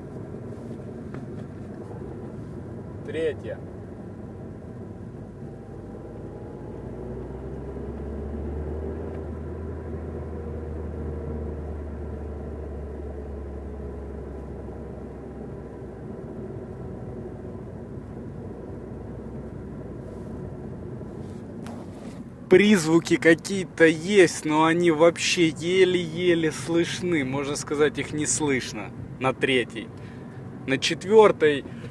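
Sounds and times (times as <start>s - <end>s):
car engine from inside cabin: 0.0s - 31.9s
road noise: 0.0s - 31.9s.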